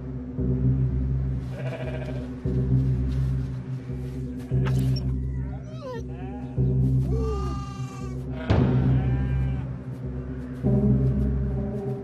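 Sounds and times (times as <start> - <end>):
tense background music drone: 0.0 - 12.0.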